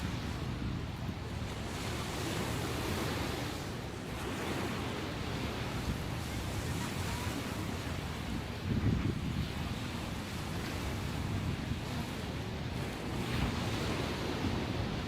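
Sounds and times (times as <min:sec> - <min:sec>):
ocean waves breaking on shore: 0:00.0 - 0:15.0
wind on microphone: 0:00.0 - 0:15.0.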